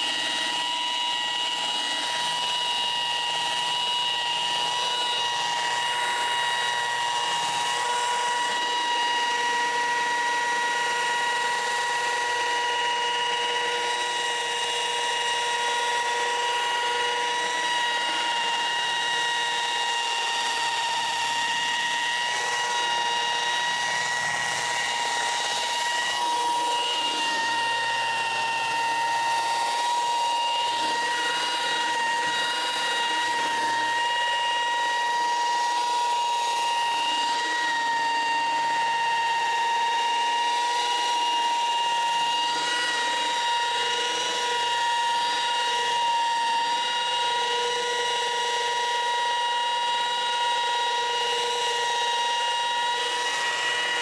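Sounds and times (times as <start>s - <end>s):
car polisher motor whine: 0.0s - 54.0s.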